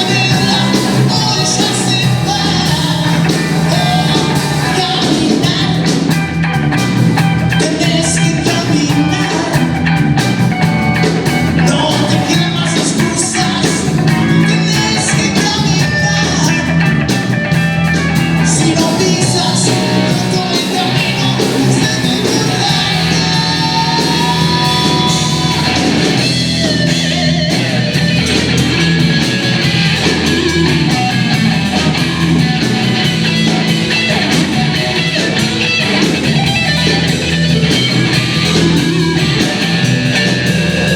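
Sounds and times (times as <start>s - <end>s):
person singing: 0.0s - 6.2s, 7.4s - 10.0s, 11.5s - 16.9s, 18.4s - 28.9s, 29.6s - 40.9s
blues-rock band playing: 0.0s - 40.9s.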